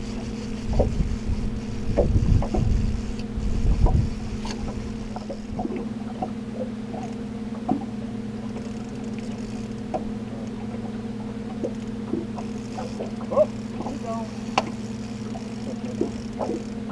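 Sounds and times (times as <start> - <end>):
boat motor humming: 0.0 - 16.9
small clicks and squeaks: 0.0 - 16.9.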